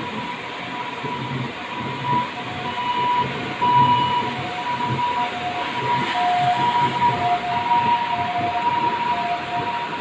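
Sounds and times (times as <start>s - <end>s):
ambulance siren: 0.0s - 10.0s
heavy rain on wet street: 0.0s - 10.0s.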